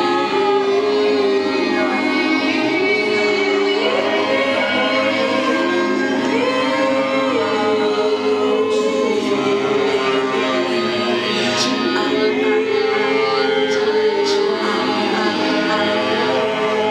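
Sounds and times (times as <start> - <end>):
sustained musical backing: 0.0 - 16.9
wordless singing: 0.0 - 16.9.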